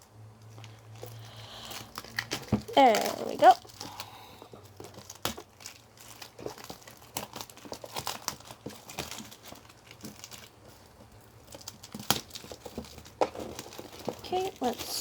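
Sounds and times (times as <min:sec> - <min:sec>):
plastic wrap crinkling: 0:00.4 - 0:15.0.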